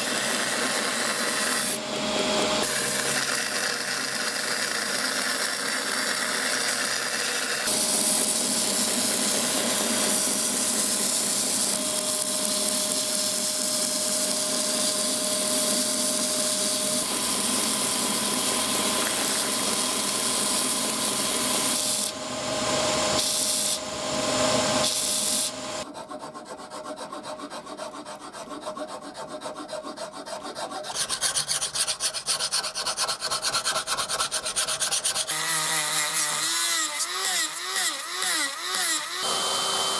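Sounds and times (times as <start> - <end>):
file or sandpaper rasping: 0.0 - 1.8, 2.6 - 22.2, 24.8 - 39.3.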